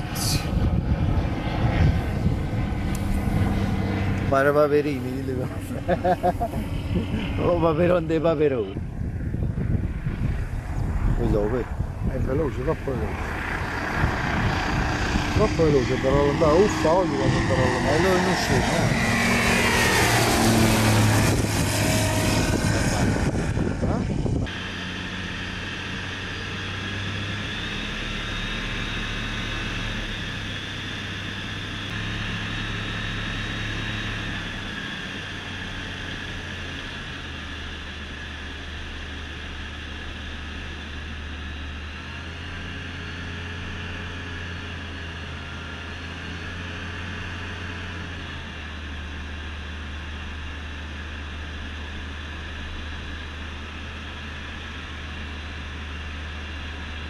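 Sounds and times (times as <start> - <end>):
aircraft engine drone: 0.0 - 57.0.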